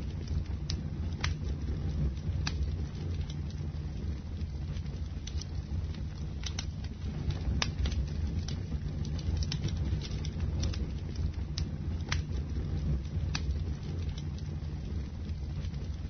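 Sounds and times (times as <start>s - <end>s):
bonfire flames rumbling: 0.0s - 16.0s
wood crackling and popping: 0.0s - 16.0s.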